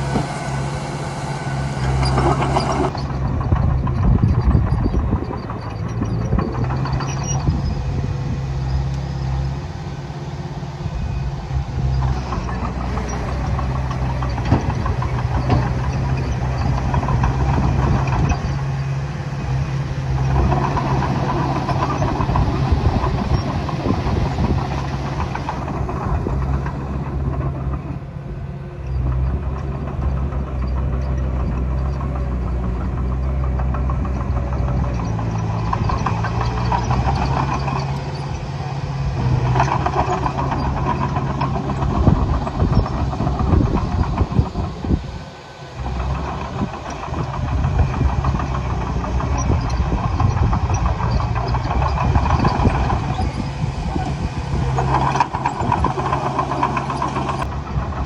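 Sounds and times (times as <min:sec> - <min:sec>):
diesel engine of heavy machinery: 0:00.0 - 0:58.0
clanking and knocking: 0:01.7 - 0:09.6, 0:11.5 - 0:28.0, 0:28.9 - 0:45.0, 0:45.8 - 0:58.0.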